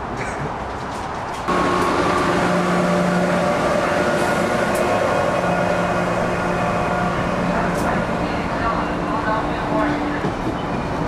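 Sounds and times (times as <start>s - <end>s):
train wheels rumbling on rails: 0.0s - 11.0s
electric locomotive humming: 1.4s - 11.0s.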